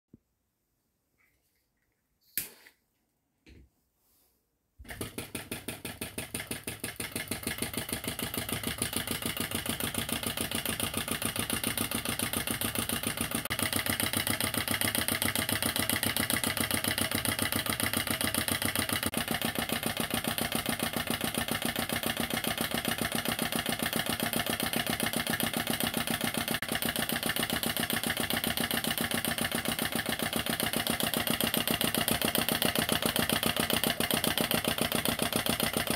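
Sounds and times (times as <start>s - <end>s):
model engine clicking: 4.9s - 35.9s.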